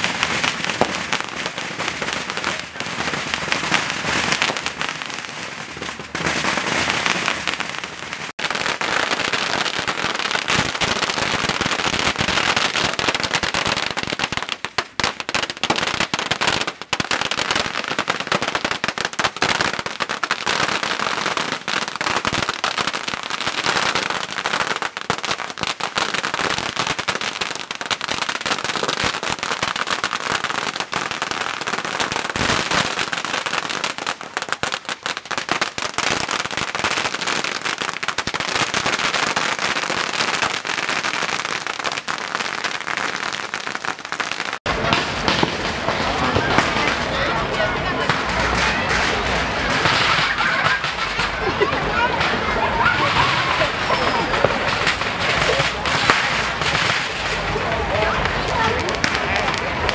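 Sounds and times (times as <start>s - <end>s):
firecrackers crackling: 0.0s - 59.9s.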